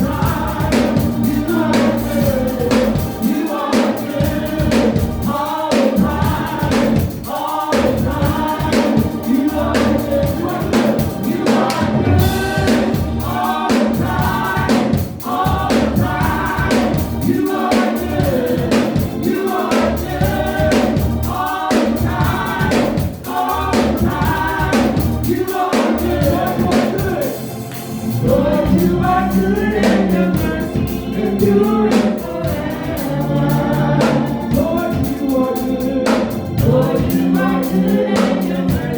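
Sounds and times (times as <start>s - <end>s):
choir singing gospel song: 0.0s - 38.9s
live band with bass and drums: 0.0s - 38.9s.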